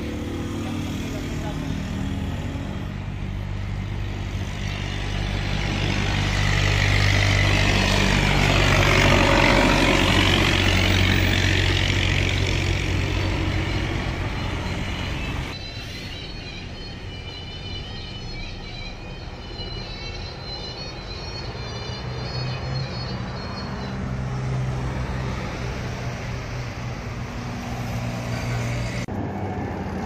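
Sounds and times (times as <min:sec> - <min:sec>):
bus driving past: 0:00.0 - 0:30.0.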